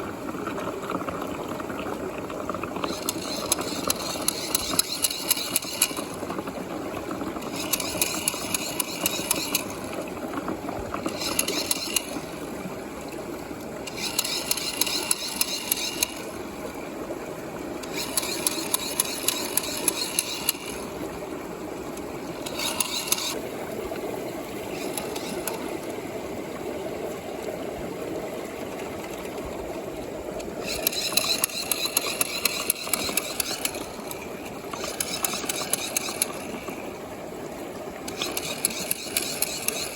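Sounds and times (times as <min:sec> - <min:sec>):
air bubbles rattling in tube: 0:00.0 - 0:26.0, 0:28.5 - 0:37.1, 0:37.9 - 0:39.9
small pump humming: 0:00.0 - 0:39.9.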